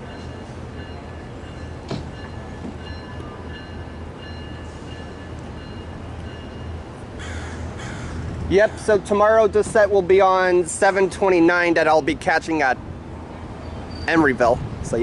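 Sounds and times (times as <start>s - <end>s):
train locomotive drone: 0.0s - 15.0s.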